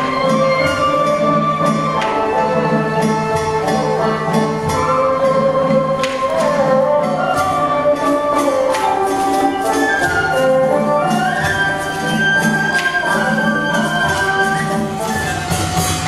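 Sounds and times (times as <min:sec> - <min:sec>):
sharp percussion strikes: 0:00.0 - 0:16.0
sustained melodic instrument: 0:00.0 - 0:16.0.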